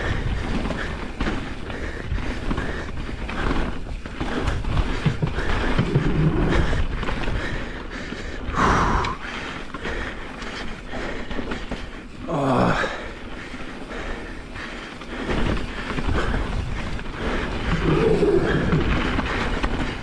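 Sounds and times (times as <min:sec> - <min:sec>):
bike knocking and rattling: 0:00.0 - 0:20.0
bike tyres rolling on dirt: 0:00.0 - 0:20.0.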